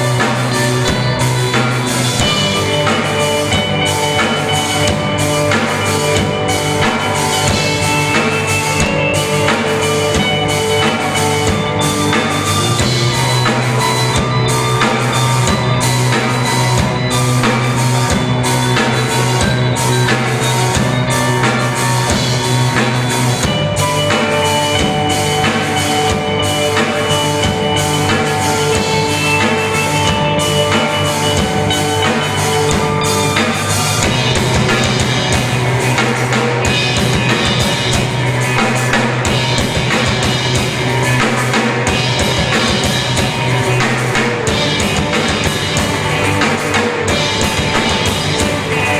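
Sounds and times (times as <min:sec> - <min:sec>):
drum kit beat: 0:00.0 - 0:48.9
rock band playing: 0:00.0 - 0:48.9.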